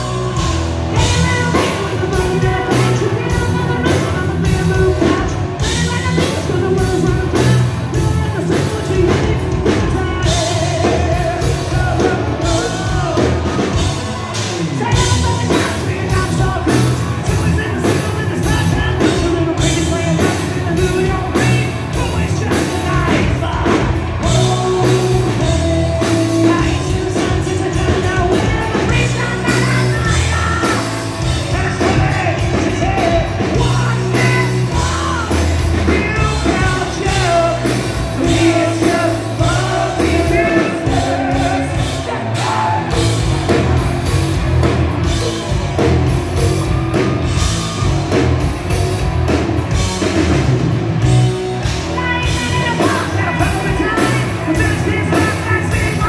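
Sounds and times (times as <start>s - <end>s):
man singing: 0.0s - 43.2s, 52.0s - 56.0s
hard rock band playing live: 0.0s - 56.0s.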